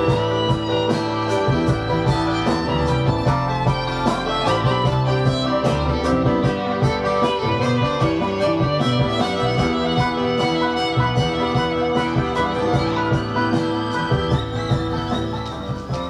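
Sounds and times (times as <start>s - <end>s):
acoustic guitar: 0.0s - 16.0s
fiddle: 0.0s - 16.0s.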